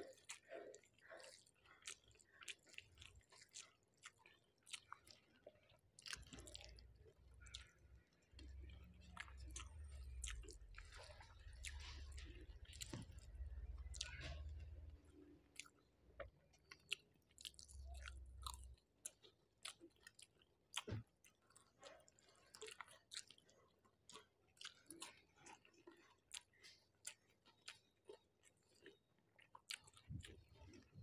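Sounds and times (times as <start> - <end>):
person chewing with wet smacks: 0.0 - 31.0.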